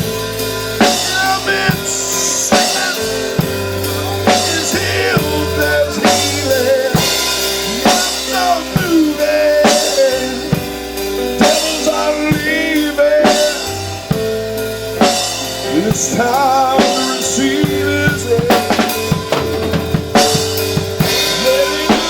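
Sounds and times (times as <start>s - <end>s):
drum kit beat: 0.0s - 22.0s
gospel music: 0.0s - 22.0s
held chords: 0.0s - 22.0s.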